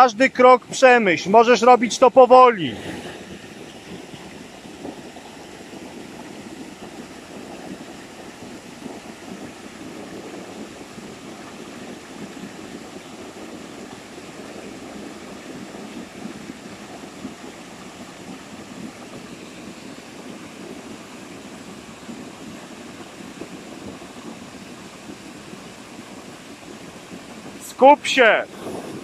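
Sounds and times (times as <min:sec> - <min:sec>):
waterfall rushing: 0:00.0 - 0:26.1, 0:26.8 - 0:29.0.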